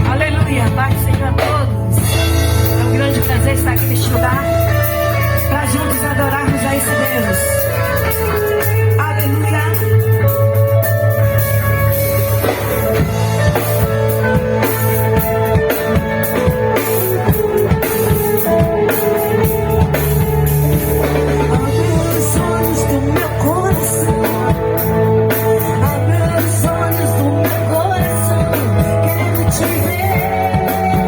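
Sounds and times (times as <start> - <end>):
drum kit: 0.0 - 31.0
live band playing: 0.0 - 31.0.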